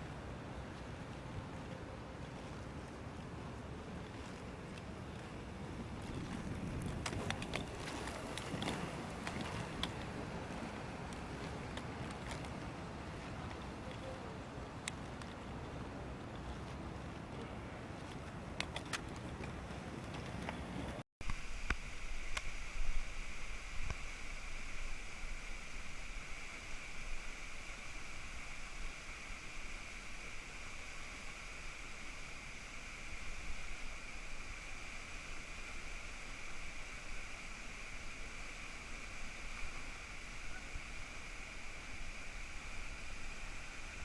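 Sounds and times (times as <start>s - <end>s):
steady rushing noise: 2.6s - 44.0s.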